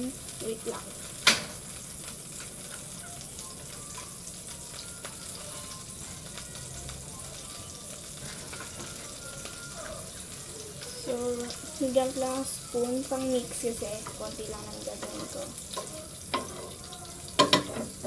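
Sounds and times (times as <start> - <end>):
butter sizzling in frying pan: 0.0 - 18.0.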